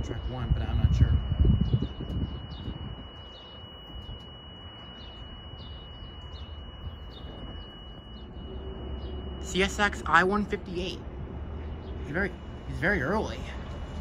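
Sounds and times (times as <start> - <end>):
small birds chirping: 0.0 - 13.9
steady low rumble: 0.0 - 14.0
thin high tone: 0.0 - 14.0.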